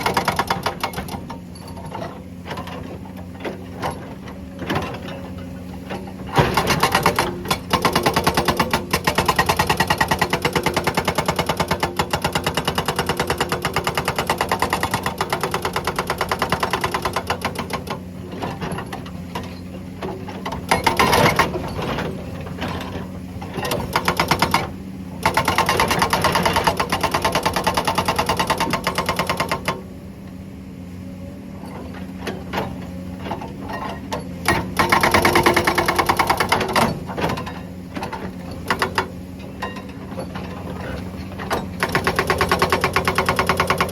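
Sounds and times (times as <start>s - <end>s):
hydraulic rock breaker hammering: 0.0s - 29.9s, 31.8s - 43.9s
excavator engine running: 0.0s - 43.9s.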